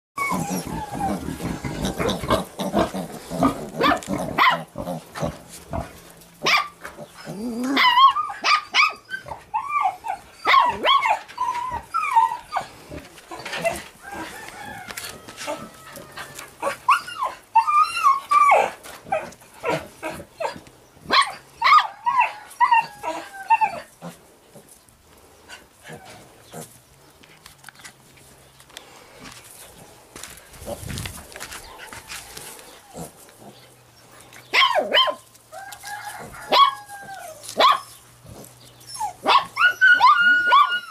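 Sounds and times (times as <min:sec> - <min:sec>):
puppy and piglets squealing: 0:00.2 - 0:24.3, 0:30.5 - 0:40.9.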